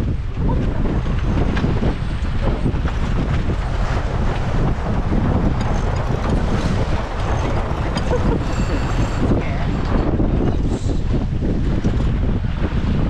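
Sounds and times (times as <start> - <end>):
choppy water rushing along hull: 0.0 - 13.0
wind buffeting microphone: 0.0 - 13.0.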